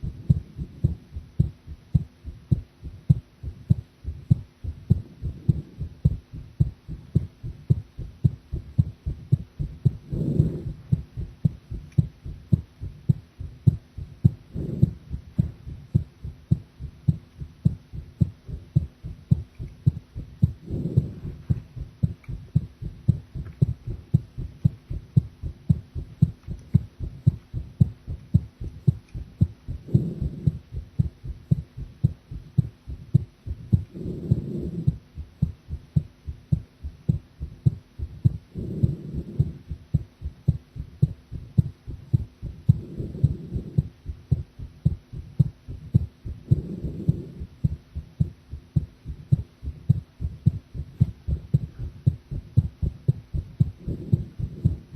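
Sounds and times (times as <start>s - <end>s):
heartbeat thumps: 0.0s - 54.9s.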